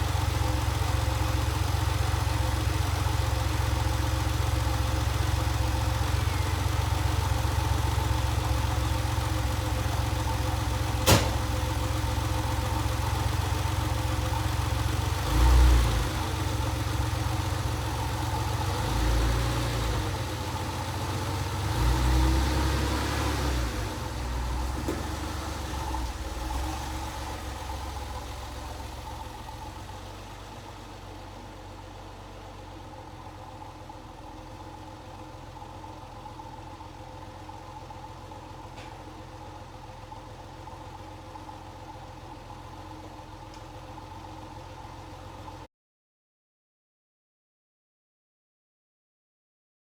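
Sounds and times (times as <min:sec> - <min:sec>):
car engine idling: 0:00.0 - 0:45.7.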